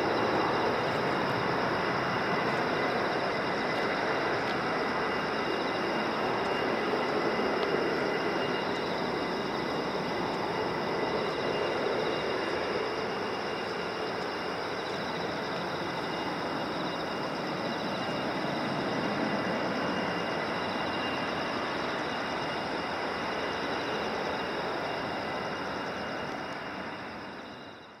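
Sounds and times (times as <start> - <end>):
jet engine noise: 0.0 - 28.0.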